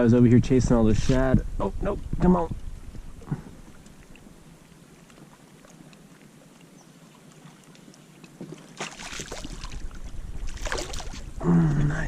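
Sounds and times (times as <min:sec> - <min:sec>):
water lapping around kayak: 0:02.0 - 0:12.0
rush of water: 0:02.3 - 0:12.0.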